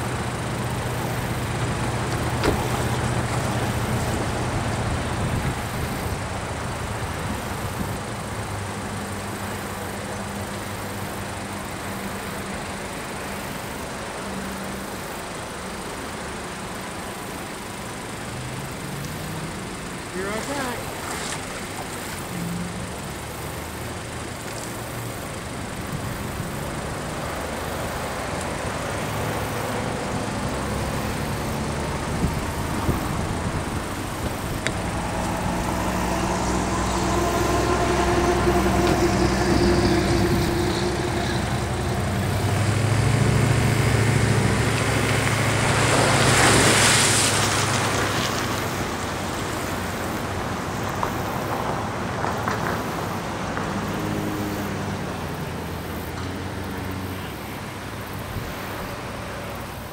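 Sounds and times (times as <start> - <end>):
car engine running: 0.0 - 59.8
vehicle passing rush: 0.0 - 59.9.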